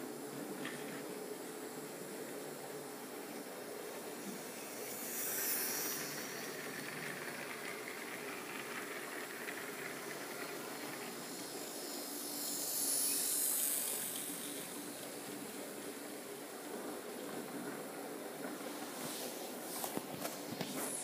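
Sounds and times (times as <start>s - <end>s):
model train wheels hissing on rails: 0.0s - 21.0s
small locomotive motor: 0.0s - 21.0s.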